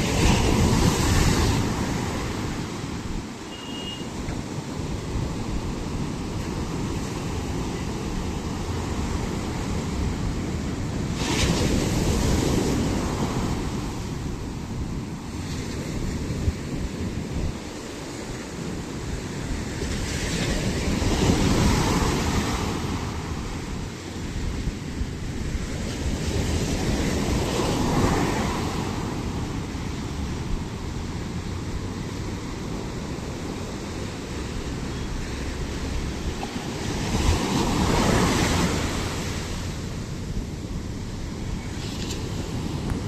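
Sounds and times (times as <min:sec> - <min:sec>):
low rush of surf: 0:00.0 - 0:03.5, 0:04.2 - 0:43.0
sea waves breaking on shore: 0:00.0 - 0:43.0.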